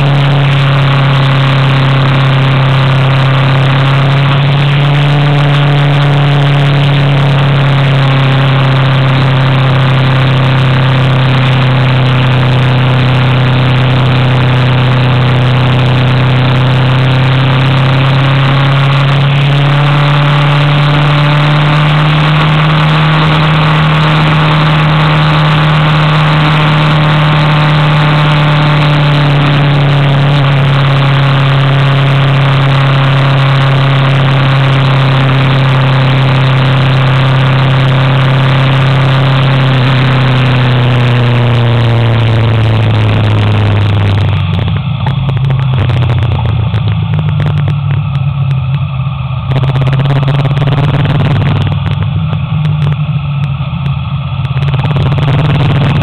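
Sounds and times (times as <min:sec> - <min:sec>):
vehicle engine climbing under load: 0:00.0 - 0:56.0.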